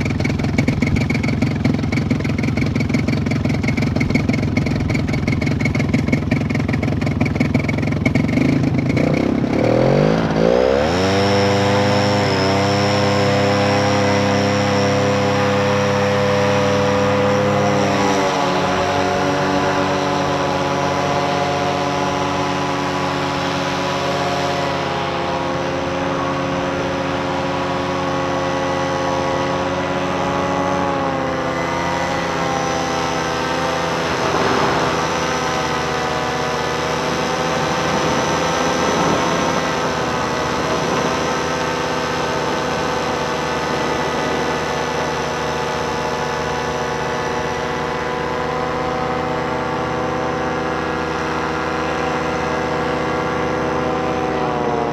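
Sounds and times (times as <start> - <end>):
paramotor engine and propeller droning: 0.0 - 54.9.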